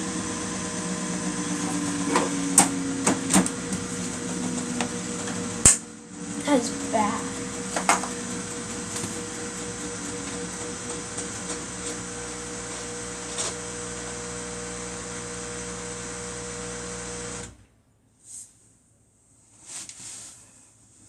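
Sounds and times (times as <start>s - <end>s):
washing machine running: 0.0s - 17.6s.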